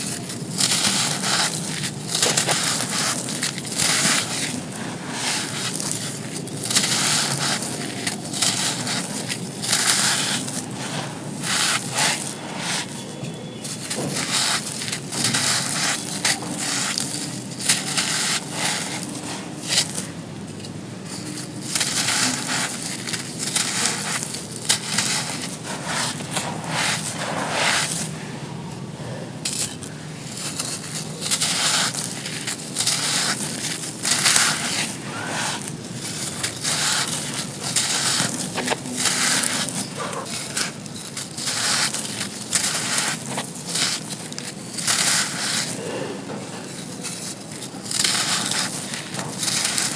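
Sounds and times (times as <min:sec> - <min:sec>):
sand cones crunching: 0:00.0 - 0:49.9.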